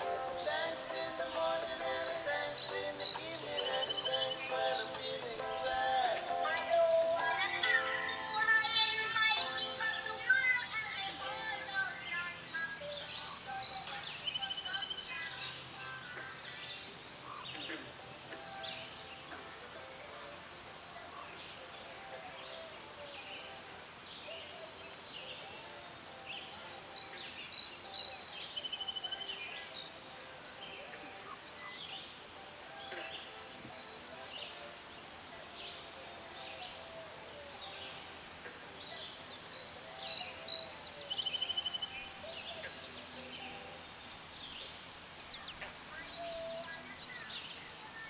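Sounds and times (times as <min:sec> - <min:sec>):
songbirds chirping and singing: 0:00.0 - 0:48.0.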